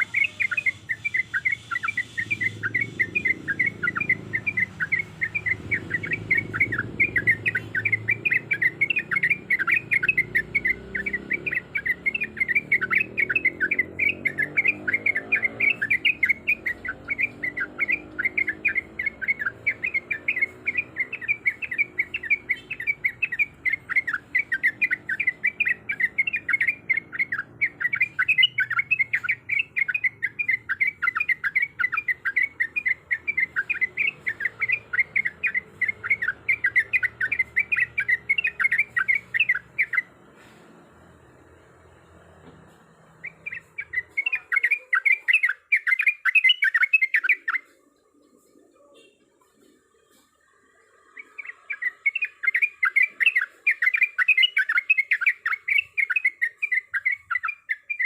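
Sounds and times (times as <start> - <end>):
bird chirping rapidly: 0.0 - 50.3, 51.0 - 58.0.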